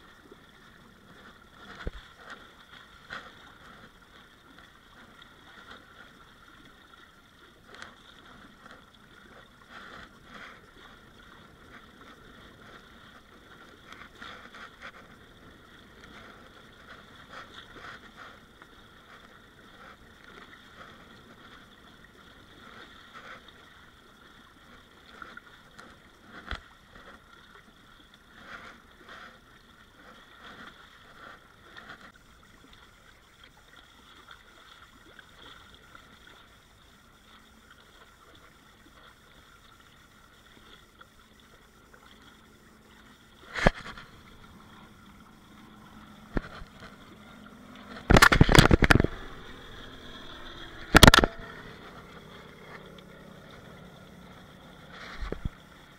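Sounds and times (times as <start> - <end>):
water rushing past hulls: 0.0 - 55.9.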